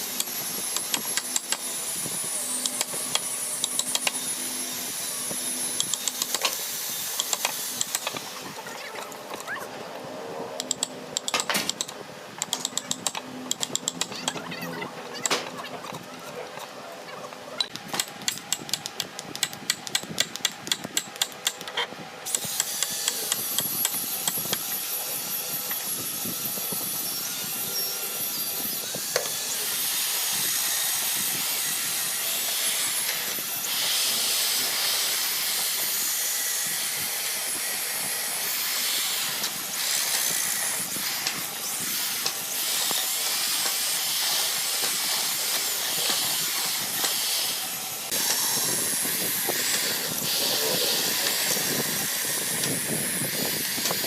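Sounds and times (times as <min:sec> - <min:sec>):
woodworking power tool hissing: 0:00.0 - 0:09.2, 0:19.8 - 0:54.0.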